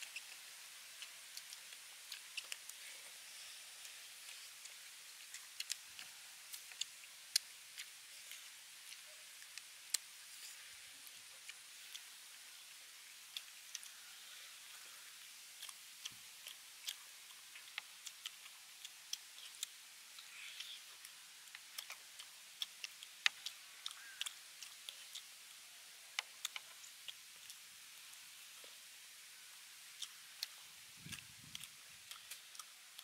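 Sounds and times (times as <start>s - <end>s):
biting and chewing: 0.0s - 12.3s, 13.3s - 28.8s, 29.9s - 33.0s
faint steady hiss: 0.0s - 33.0s.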